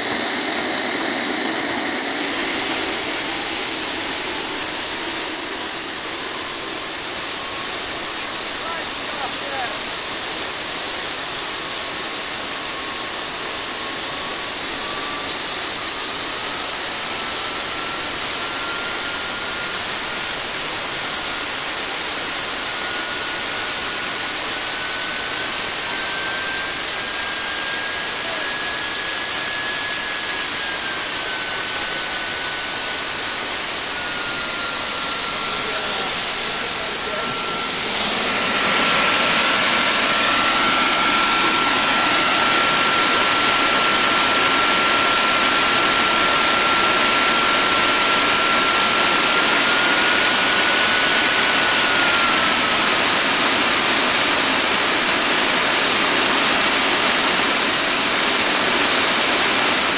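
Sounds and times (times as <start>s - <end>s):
high turbine whine: 0.0s - 59.9s
turbojet engine roaring: 0.0s - 59.9s.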